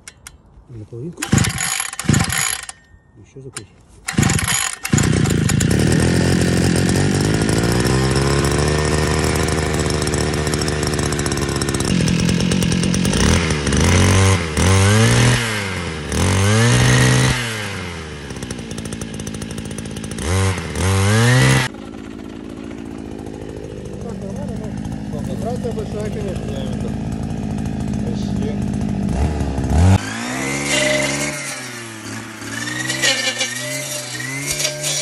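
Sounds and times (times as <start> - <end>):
brush cutter engine revving: 1.2 - 2.9, 3.6 - 35.0.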